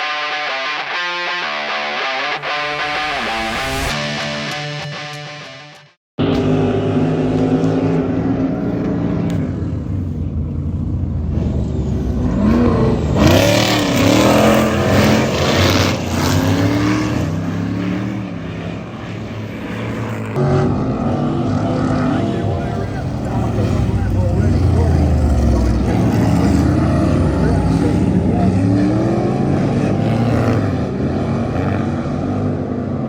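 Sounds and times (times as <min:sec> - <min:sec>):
race car engines revving: 0:06.2 - 0:33.0.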